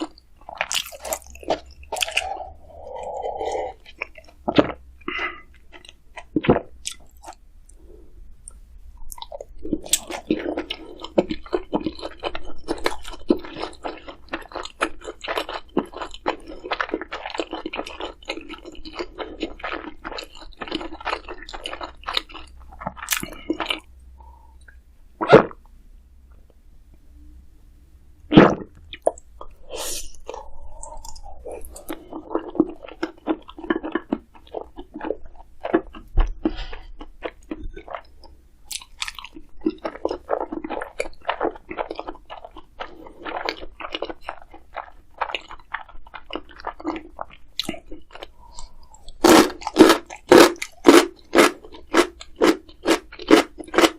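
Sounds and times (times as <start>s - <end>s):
chewing crunchy food: 0.0s - 7.8s, 8.5s - 23.9s, 28.9s - 53.9s.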